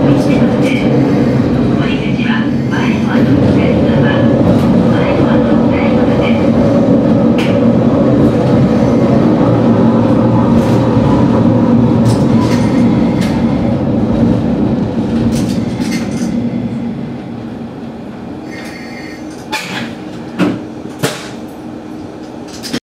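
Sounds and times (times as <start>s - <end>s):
train engine and wheel rumble: 0.0s - 22.8s.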